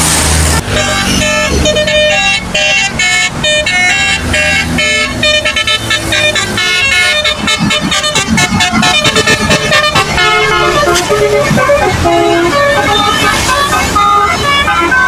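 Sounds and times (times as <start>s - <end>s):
bus engine: 0.0s - 15.0s
road traffic noise: 0.0s - 15.0s
musical bus horn playing notes: 0.6s - 15.0s.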